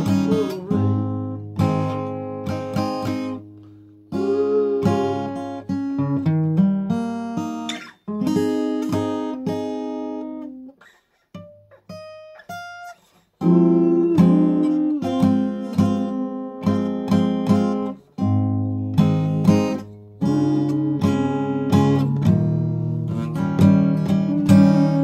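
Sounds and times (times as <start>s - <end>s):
guitar notes plucked: 0.0s - 10.8s, 13.4s - 25.0s
acoustic guitar strumming: 0.0s - 25.0s.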